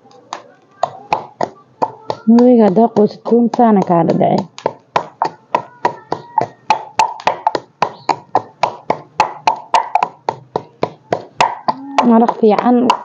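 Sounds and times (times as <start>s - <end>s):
rapid knocking of food worked by hand: 0.1s - 13.0s.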